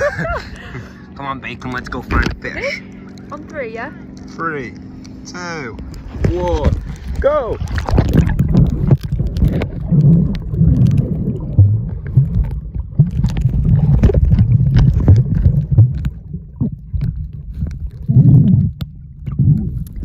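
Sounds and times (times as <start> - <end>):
muffled underwater water rumble: 0.0 - 20.0
bubbling: 4.0 - 20.0.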